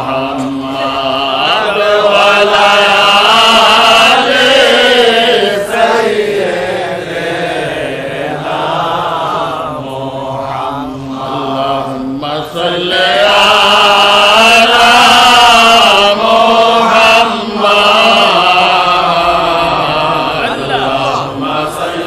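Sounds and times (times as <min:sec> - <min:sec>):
man chanting: 0:00.0 - 0:22.0.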